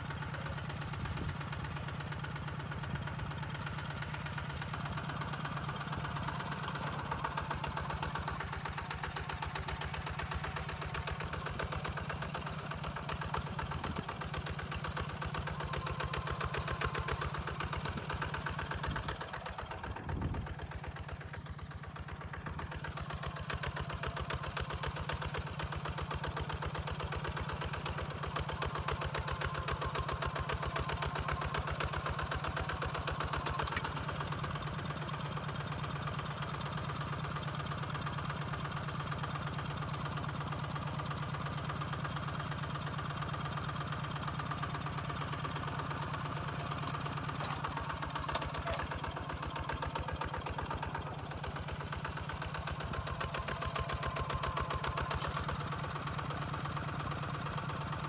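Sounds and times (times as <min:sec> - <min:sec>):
diesel tractor engine chugging: 0:00.0 - 0:58.0
plow through dry soil: 0:00.0 - 0:58.0.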